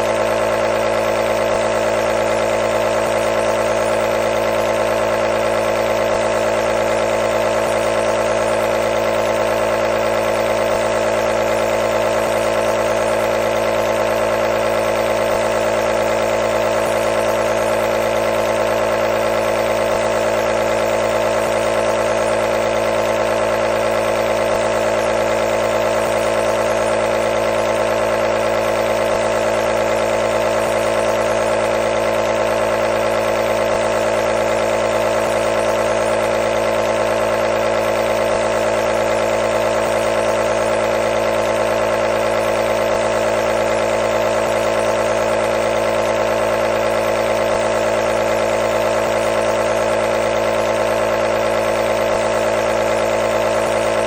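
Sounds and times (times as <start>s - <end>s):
compressor motor hum: 0.0s - 54.0s.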